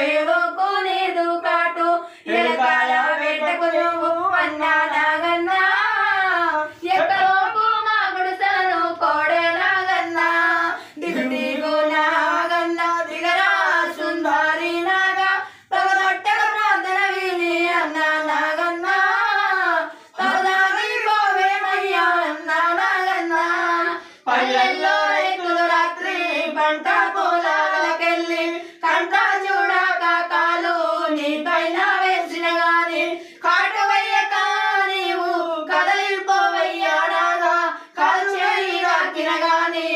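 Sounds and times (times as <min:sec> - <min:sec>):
women singing unaccompanied: 0:00.0 - 0:39.9.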